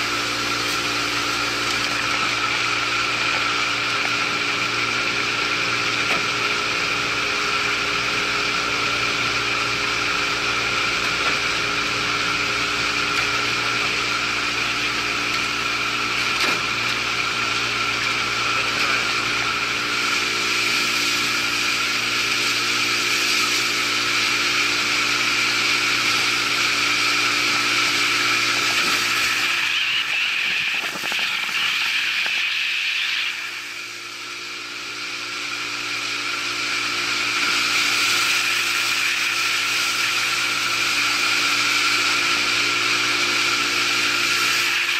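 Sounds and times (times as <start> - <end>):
boat motor droning with whine: 0.0 - 44.9.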